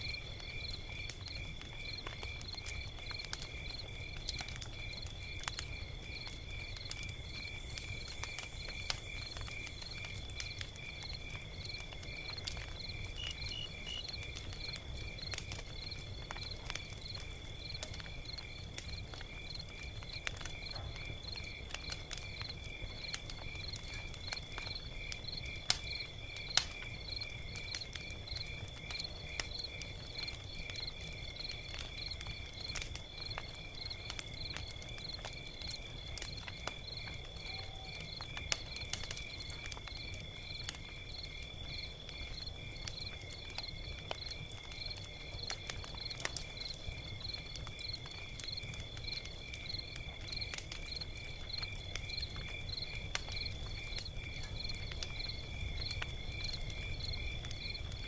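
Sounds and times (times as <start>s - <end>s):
crickets chirping: 0.0s - 58.0s
log fire crackling and popping: 0.0s - 58.0s.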